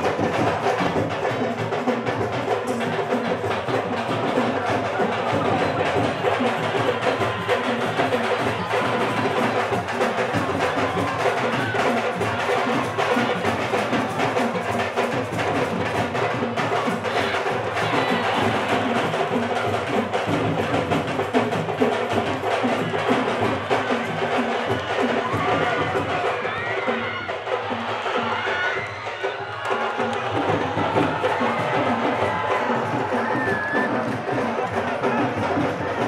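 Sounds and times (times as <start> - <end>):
fast drum percussion music: 0.0 - 36.0.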